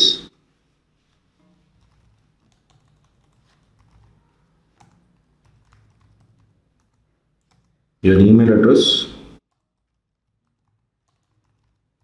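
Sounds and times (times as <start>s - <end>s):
faint keyboard typing: 0.0s - 8.0s, 9.4s - 12.0s.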